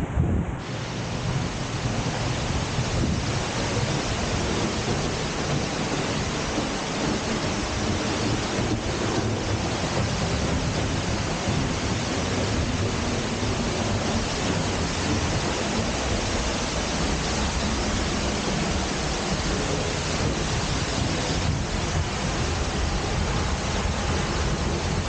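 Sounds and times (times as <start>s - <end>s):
waterfall rushing: 0.6s - 25.0s.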